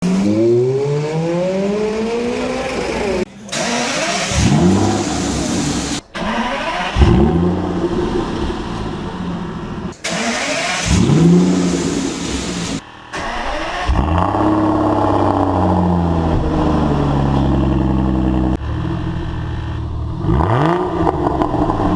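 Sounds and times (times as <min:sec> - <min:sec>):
car engine revving and idling: 0:00.0 - 0:21.9.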